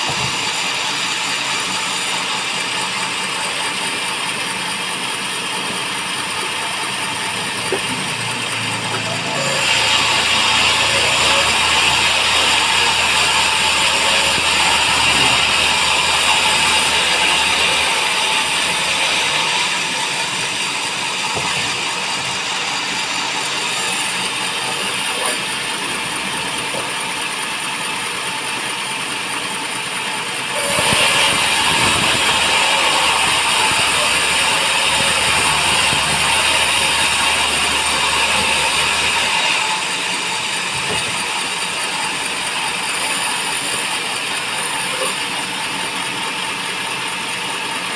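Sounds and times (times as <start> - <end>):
band sawmill running: 0.0 - 47.9.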